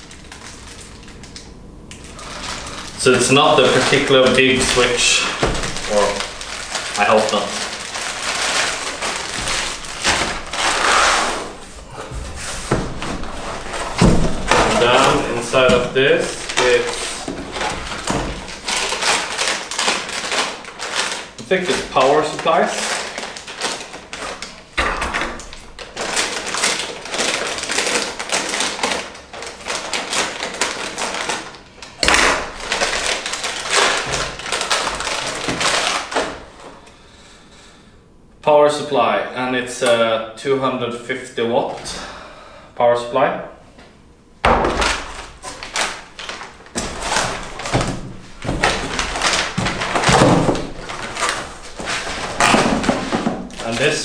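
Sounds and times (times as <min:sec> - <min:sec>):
plastic bag crinkling: 0:00.0 - 0:36.8, 0:44.4 - 0:54.0.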